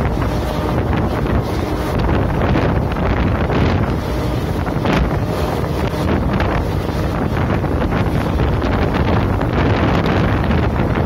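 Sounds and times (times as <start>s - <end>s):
wind rushing across microphone: 0.0s - 11.0s.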